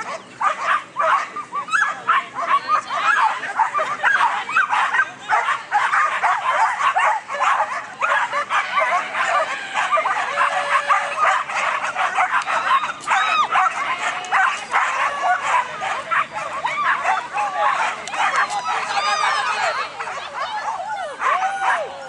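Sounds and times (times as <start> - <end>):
dogs barking and yelping: 0.0 - 22.0.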